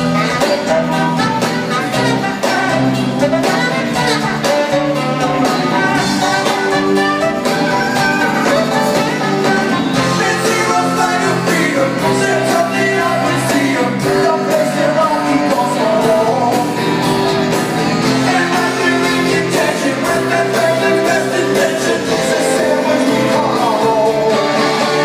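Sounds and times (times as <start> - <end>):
rock band with guitars: 0.0 - 25.0
voices singing: 0.4 - 25.0.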